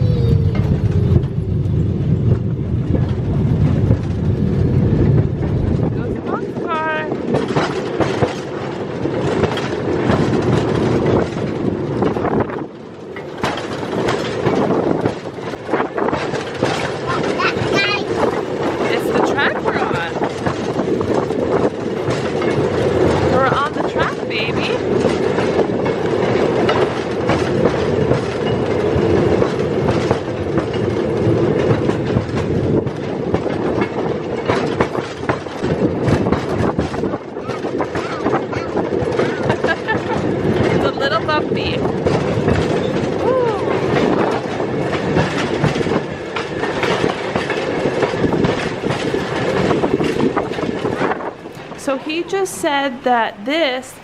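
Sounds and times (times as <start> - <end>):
rail motor car rumble: 0.0 - 54.0
wheels clacking on track: 0.0 - 54.0.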